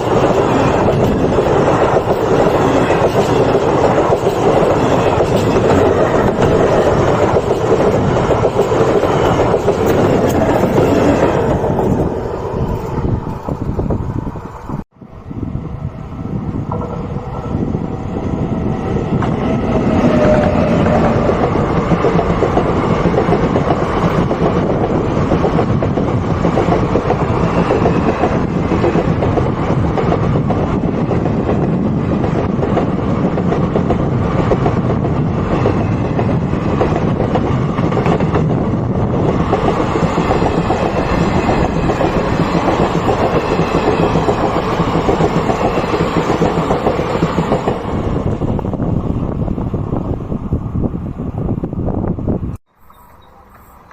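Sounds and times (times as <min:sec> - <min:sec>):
train wheels clattering on track: 0:00.0 - 0:14.0, 0:19.1 - 0:48.8.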